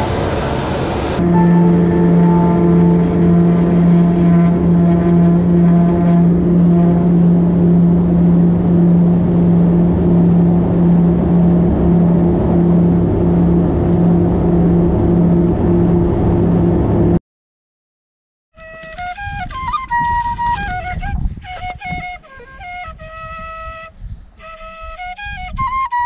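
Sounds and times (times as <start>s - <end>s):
turboprop engine and propeller drone: 0.0s - 17.2s, 18.7s - 23.9s.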